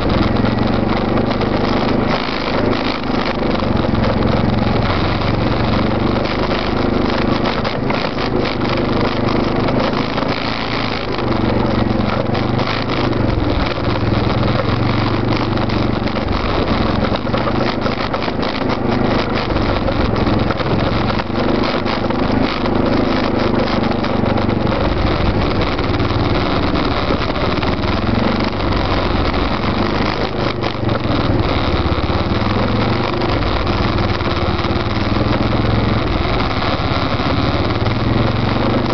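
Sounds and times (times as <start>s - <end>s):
atv engine running: 0.0s - 38.9s
knocks and rattles over rocks: 0.0s - 38.9s.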